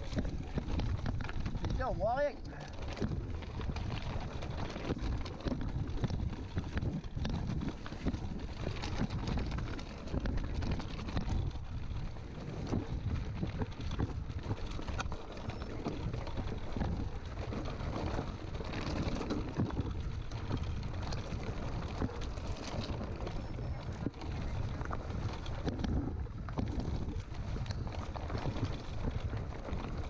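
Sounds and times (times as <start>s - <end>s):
bike knocking and rattling: 0.0s - 30.0s
tyre rumble: 0.0s - 30.0s
wind buffeting microphone: 0.0s - 30.0s.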